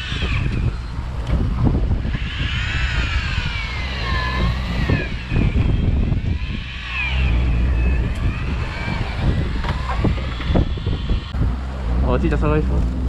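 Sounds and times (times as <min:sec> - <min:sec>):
electric fishing reel motor whine: 0:00.0 - 0:12.0
boat engine rumble: 0:00.0 - 0:13.0.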